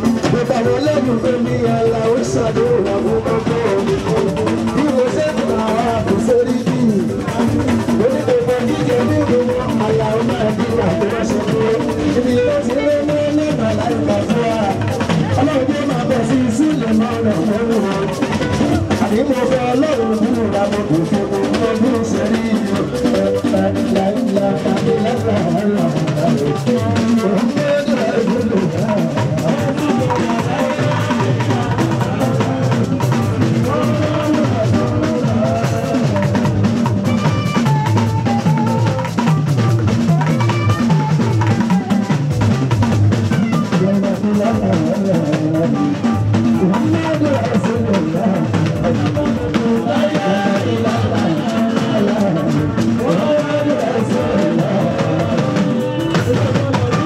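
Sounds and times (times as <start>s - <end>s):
drums and percussion: 0.0s - 57.0s
live band music: 0.0s - 57.0s.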